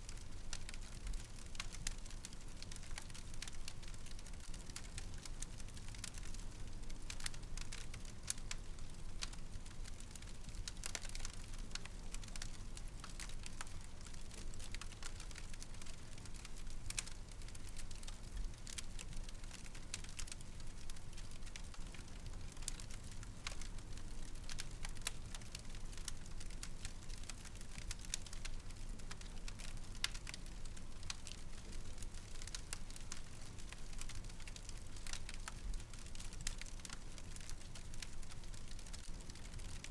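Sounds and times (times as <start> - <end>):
fire crackling and popping: 0.1 - 39.9.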